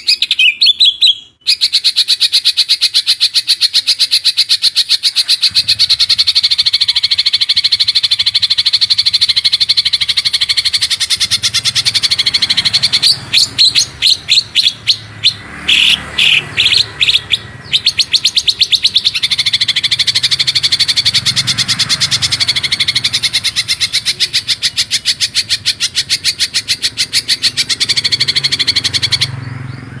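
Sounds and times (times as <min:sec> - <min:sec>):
songbird rapid trill: 0:00.0 - 0:30.0.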